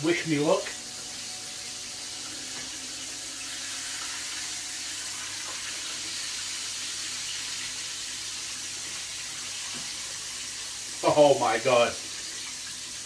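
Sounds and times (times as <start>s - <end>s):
steak sizzling in hot oil: 0.0s - 13.0s.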